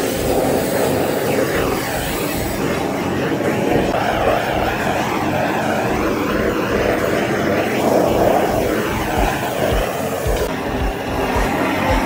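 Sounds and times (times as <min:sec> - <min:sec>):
power tool motor droning: 0:00.0 - 0:12.0.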